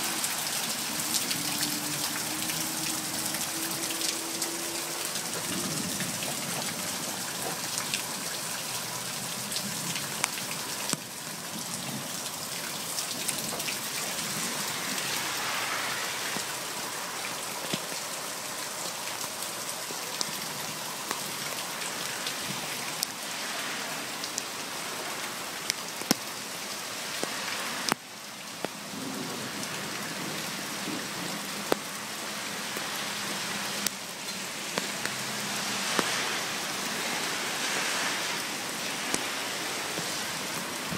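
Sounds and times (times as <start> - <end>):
rain hissing on soil and plants: 0.0 - 40.9.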